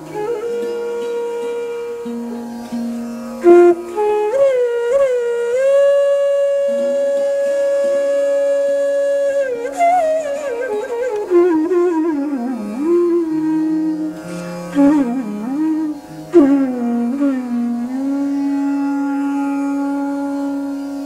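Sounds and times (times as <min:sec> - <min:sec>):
bamboo flute melody: 0:00.0 - 0:21.0
low sustained accompanying notes: 0:00.0 - 0:21.0.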